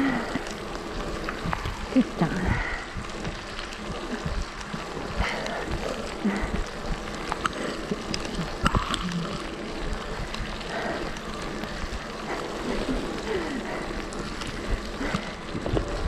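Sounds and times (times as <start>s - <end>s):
heavy rain pouring: 0.0s - 16.0s
raindrops striking microphone: 0.0s - 16.0s.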